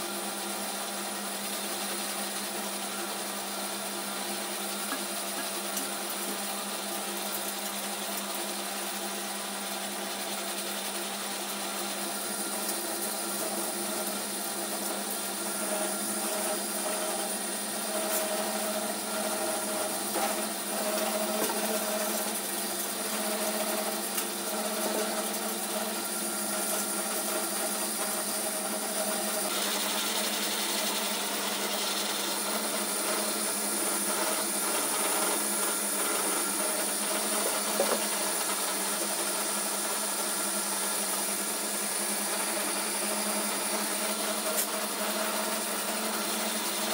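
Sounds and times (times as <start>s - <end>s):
pellet mill motor hum: 0.0s - 46.9s.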